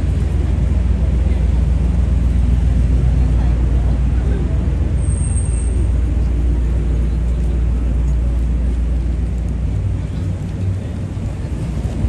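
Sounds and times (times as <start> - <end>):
low rumble of motor traffic: 0.0 - 12.0.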